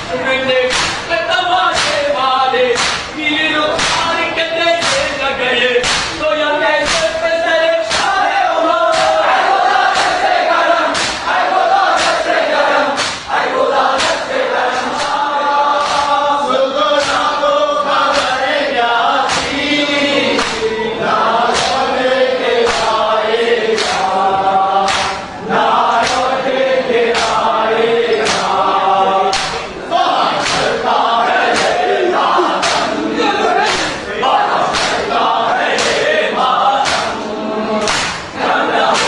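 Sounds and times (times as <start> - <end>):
crowd chanting a lament: 0.0 - 39.0
sharp rhythmic beat: 0.0 - 39.0.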